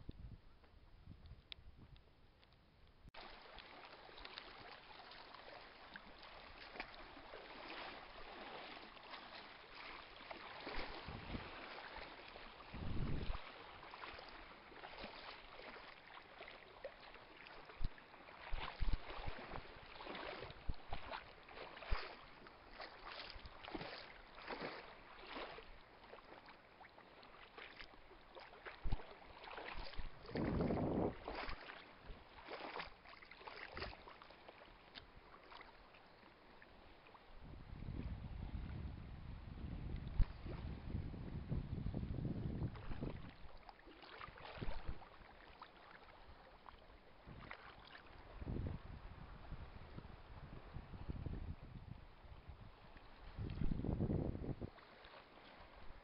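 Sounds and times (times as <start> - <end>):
water splashing and sloshing: 1.3 - 38.0, 39.8 - 41.1, 42.0 - 56.0.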